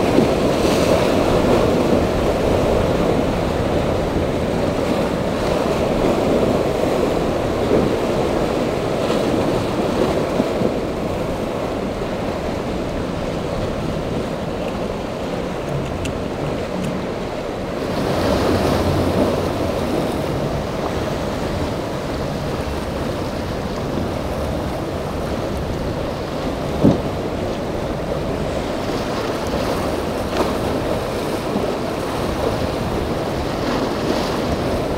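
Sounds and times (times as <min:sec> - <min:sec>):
surf churning and breaking: 0:00.0 - 0:34.9
wind buffeting microphone: 0:00.0 - 0:34.9.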